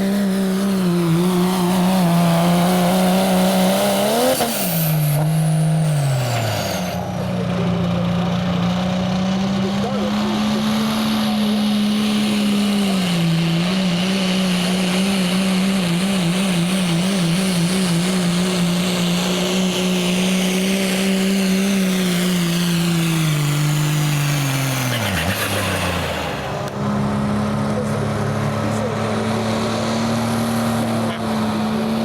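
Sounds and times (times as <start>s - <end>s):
diesel truck engine at high revs: 0.0s - 32.0s.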